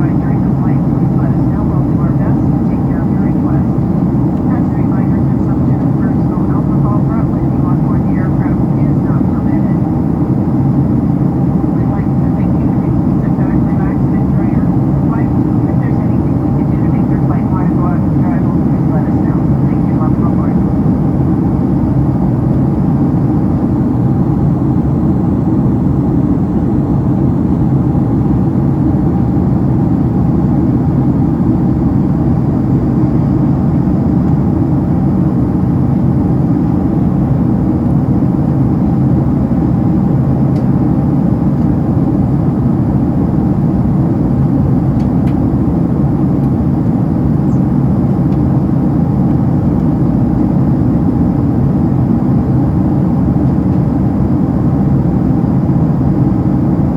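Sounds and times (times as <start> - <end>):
faint steady hum: 0.0 - 56.9
jet engine cabin rumble: 0.0 - 56.9.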